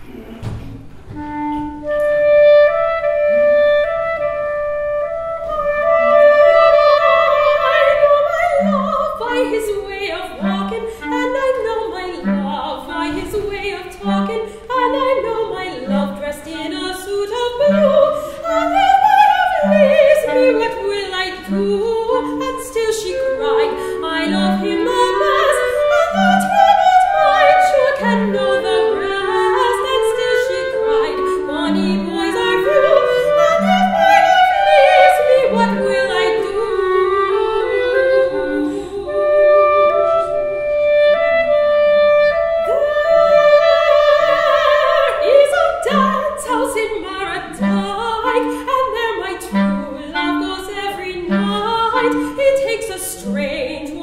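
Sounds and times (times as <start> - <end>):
clarinet: 0.0 - 54.0
soprano singing: 1.2 - 54.0.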